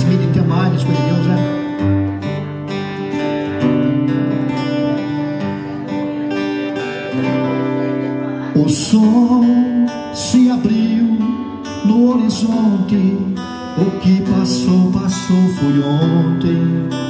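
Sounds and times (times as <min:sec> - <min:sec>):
acoustic guitars strumming: 0:00.0 - 0:17.0.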